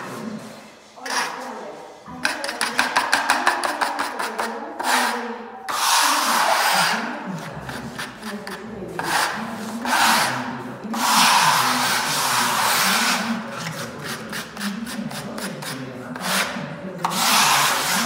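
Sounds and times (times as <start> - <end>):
trowel scraping mortar on floor: 0.0 - 1.6, 2.2 - 18.0.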